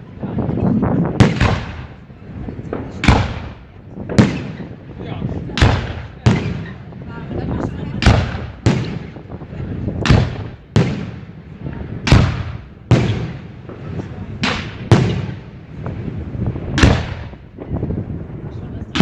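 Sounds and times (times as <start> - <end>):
fireworks loud bangs: 0.3 - 19.0.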